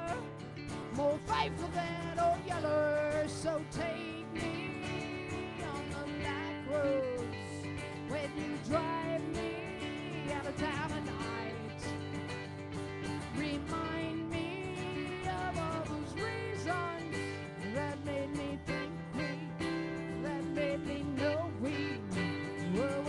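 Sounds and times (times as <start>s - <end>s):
person singing into microphone: 0.0s - 0.3s, 0.9s - 12.0s, 13.2s - 23.0s
strummed guitar: 0.0s - 23.0s.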